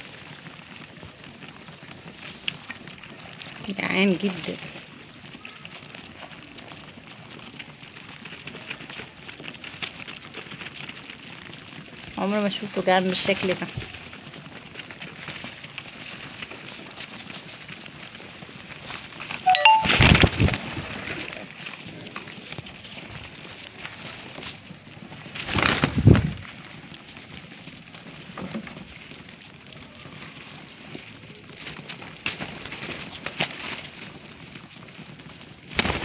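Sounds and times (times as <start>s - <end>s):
pigeons pecking grain: 0.0s - 36.0s.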